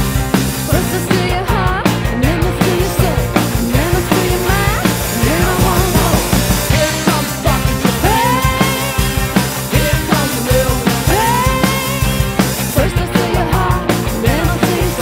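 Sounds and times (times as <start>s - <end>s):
drums: 0.0s - 15.0s
electric guitars: 0.0s - 15.0s.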